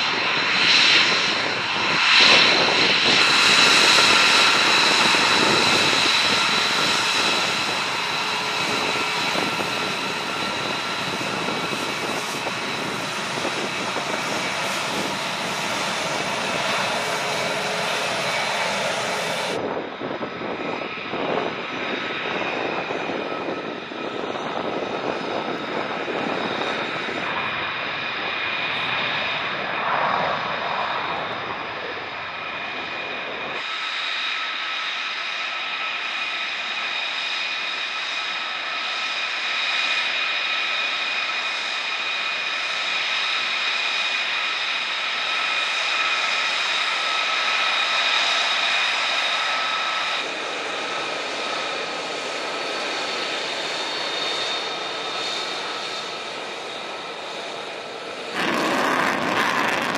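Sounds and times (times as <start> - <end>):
deep jet rumble: 0.0 - 39.9, 41.4 - 59.9
jet engine high whine: 0.0 - 59.9.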